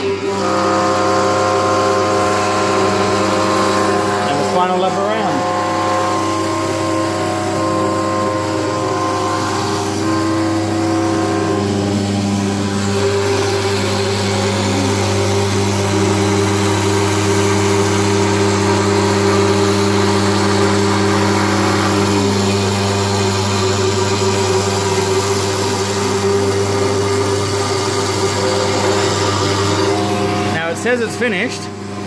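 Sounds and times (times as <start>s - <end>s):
cnc router humming: 0.0s - 32.0s
whining spindle tones: 0.0s - 32.0s.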